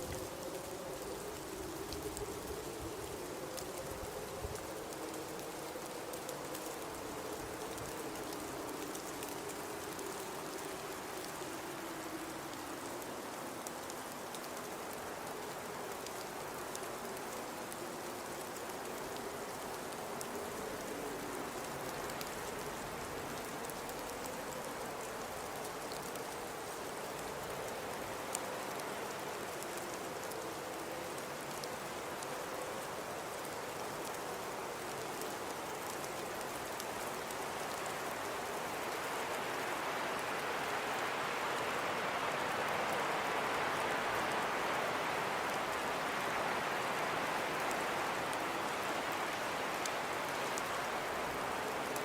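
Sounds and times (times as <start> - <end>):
blizzard wind moaning: 0.0 - 52.0.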